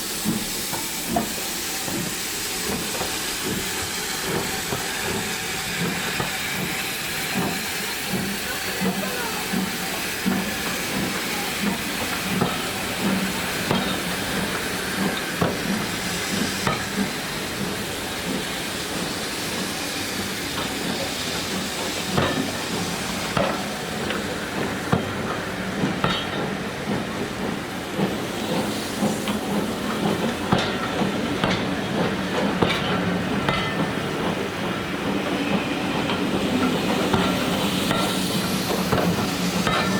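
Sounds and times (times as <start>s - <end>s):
steam hissing: 0.0s - 39.9s.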